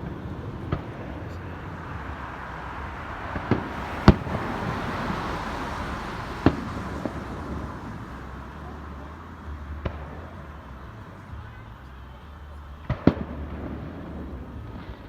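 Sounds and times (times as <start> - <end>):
fireworks banging: 0.0 - 11.6, 12.6 - 15.0
steady background noise: 0.0 - 15.0.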